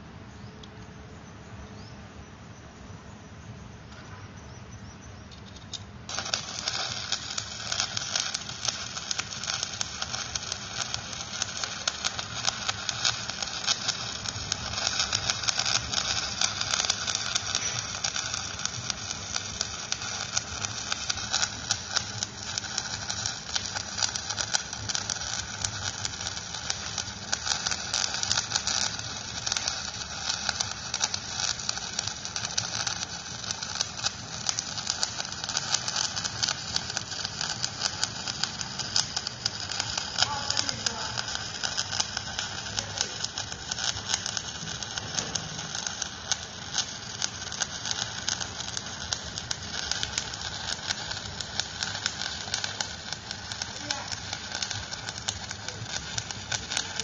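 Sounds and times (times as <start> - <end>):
arc welding crackle: 0.0 - 1.0, 3.6 - 57.0.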